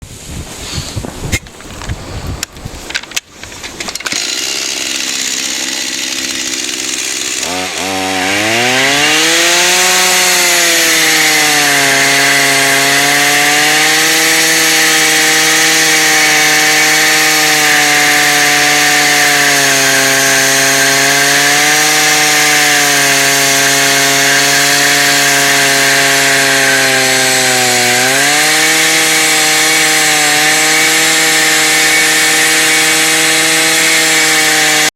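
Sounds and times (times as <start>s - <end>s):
chainsaw engine revving: 2.9s - 34.9s.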